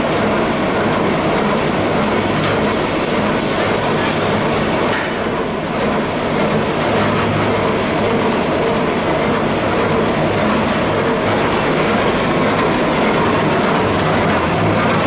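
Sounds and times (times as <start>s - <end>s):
steady hum: 0.0s - 15.0s
washing plant mechanical noise: 0.0s - 15.0s.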